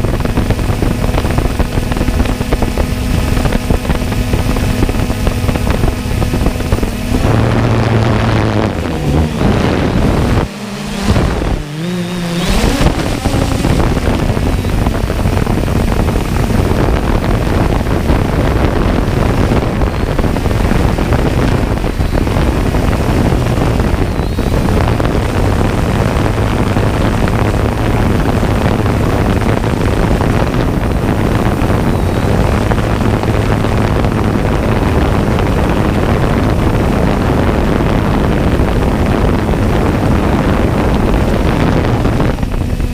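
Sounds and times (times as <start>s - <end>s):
jet ski engine drone: 0.0s - 42.9s
wind buffeting microphone: 0.0s - 42.9s.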